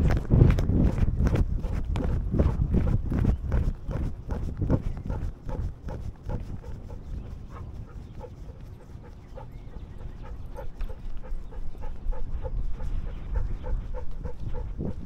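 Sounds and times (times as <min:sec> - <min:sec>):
wind rumble: 0:00.0 - 0:15.0
dog panting: 0:00.5 - 0:15.0.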